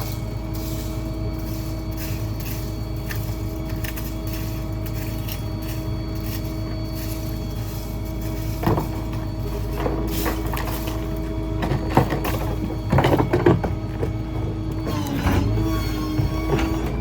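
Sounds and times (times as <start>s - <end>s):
garbage truck running: 0.0s - 17.0s.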